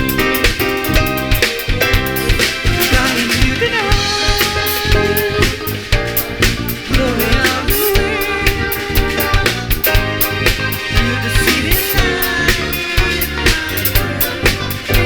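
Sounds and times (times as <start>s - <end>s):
band playing upbeat song: 0.0s - 15.0s
drum kit beat: 0.0s - 15.0s
sliding melody line: 0.0s - 15.0s.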